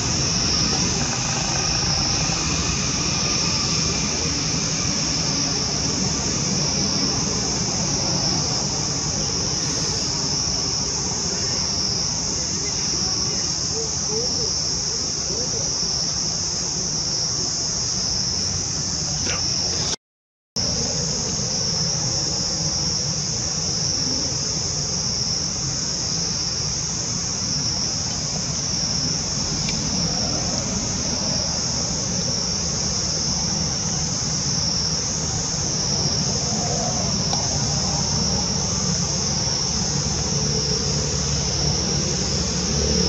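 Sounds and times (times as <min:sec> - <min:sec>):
high-pitched insect chorus: 0:00.0 - 0:20.0, 0:20.6 - 0:43.0.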